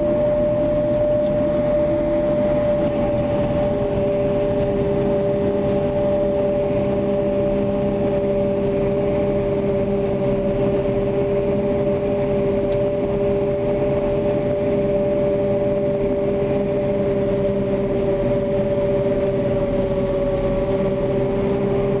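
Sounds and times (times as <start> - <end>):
engine rumble: 0.0 - 22.0
two-note machinery whine: 0.0 - 22.0.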